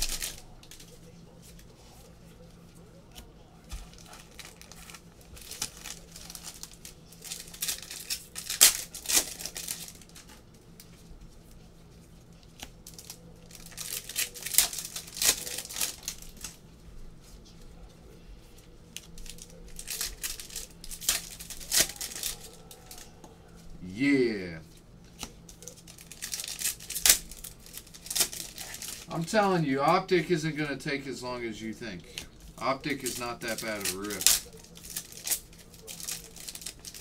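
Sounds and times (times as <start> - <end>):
foil wrappers tearing and crinkling: 0.0 - 2.0, 3.6 - 11.6, 12.3 - 16.6, 18.9 - 37.0.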